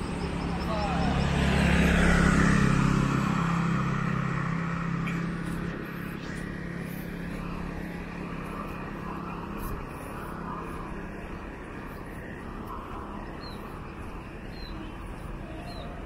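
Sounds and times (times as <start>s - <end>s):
passing vehicle engine hum: 0.0s - 16.0s
road noise: 0.0s - 16.0s.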